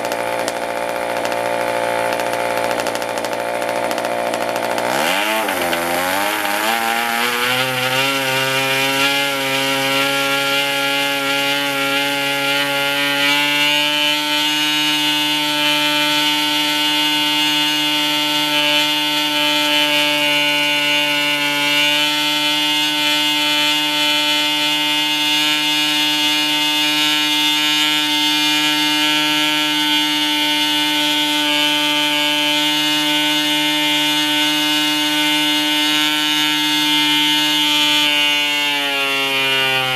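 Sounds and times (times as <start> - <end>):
model engine buzzing: 0.0 - 39.9.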